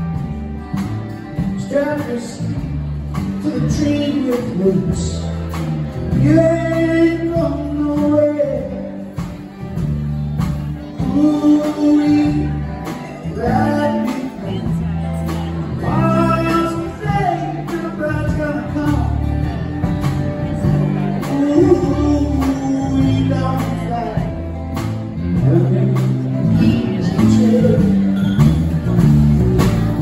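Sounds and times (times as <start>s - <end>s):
acoustic guitar: 0.0s - 30.0s
drum kit beat: 0.0s - 30.0s
electric bass: 0.0s - 30.0s
electric guitar: 0.0s - 30.0s.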